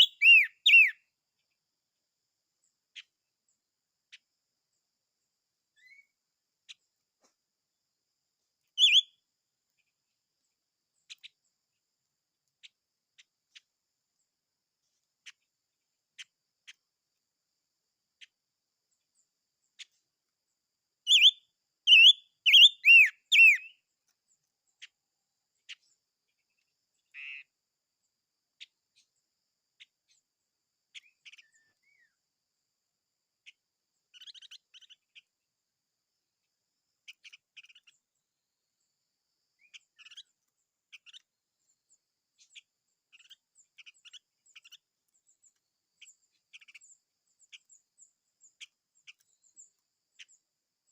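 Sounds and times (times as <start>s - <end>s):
small songbird chirping: 0.0s - 50.9s.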